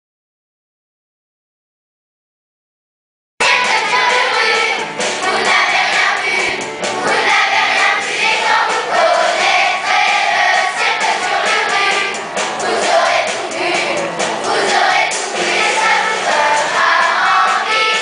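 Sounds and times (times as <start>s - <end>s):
children's choir singing: 3.4s - 18.0s.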